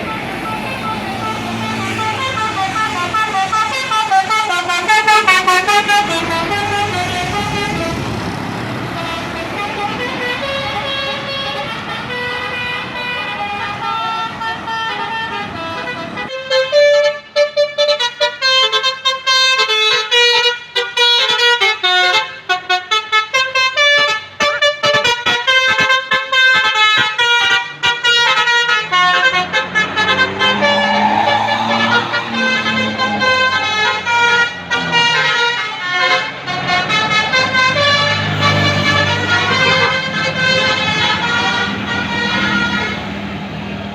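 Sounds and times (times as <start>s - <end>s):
multi-tone musical horn: 0.0s - 8.2s, 9.0s - 43.2s.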